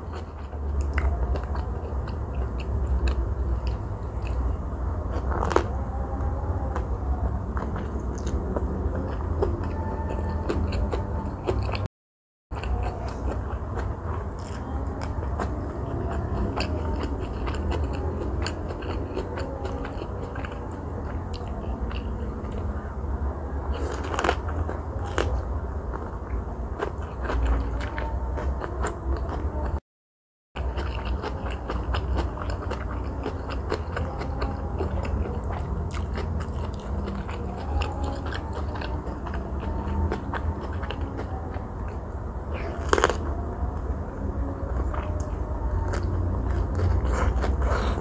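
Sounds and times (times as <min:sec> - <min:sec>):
chewing crunchy food: 0:00.0 - 0:05.8, 0:07.5 - 0:11.9, 0:12.5 - 0:22.9, 0:23.6 - 0:29.8, 0:30.6 - 0:48.0
low steady hum: 0:00.0 - 0:11.9, 0:12.5 - 0:29.8, 0:30.6 - 0:48.0.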